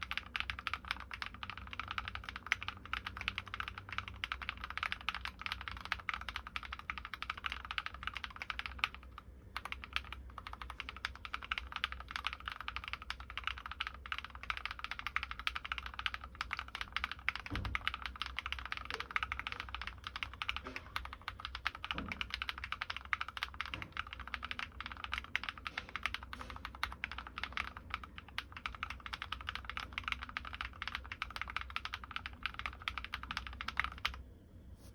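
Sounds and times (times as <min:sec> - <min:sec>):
mechanical keyboard typing: 0:00.0 - 0:34.2.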